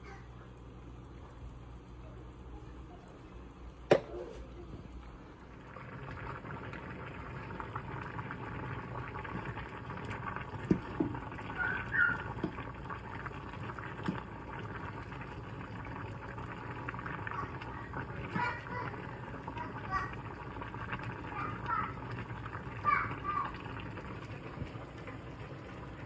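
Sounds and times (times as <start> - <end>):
food bubbling and crackling: 0.1 - 26.0.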